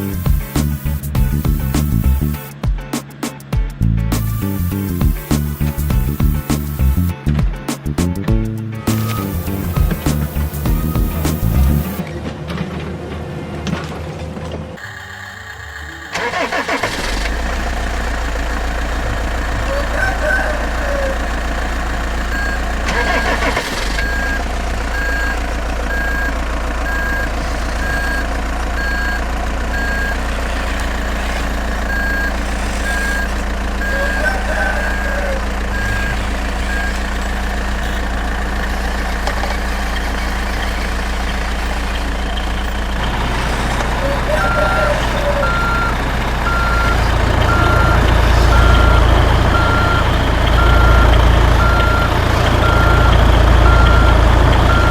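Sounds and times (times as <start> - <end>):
engine running: 0.0 - 54.9
truck reversing alarm beeping: 4.1 - 7.1, 8.8 - 12.0, 14.8 - 54.9.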